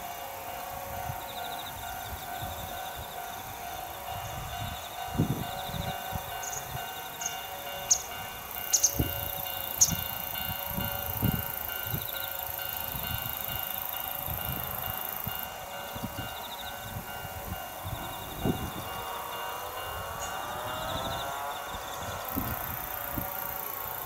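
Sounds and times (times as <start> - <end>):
level-crossing warning bell: 0.0 - 24.0
wind buffeting microphone: 0.7 - 24.0.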